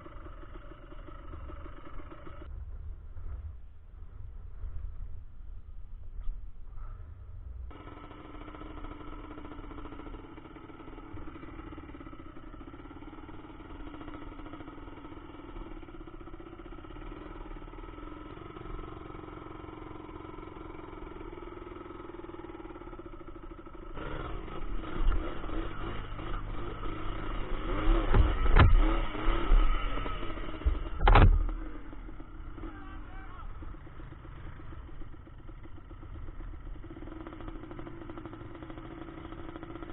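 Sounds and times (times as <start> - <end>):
quad engine idling and revving: 0.0 - 2.5, 7.7 - 39.9.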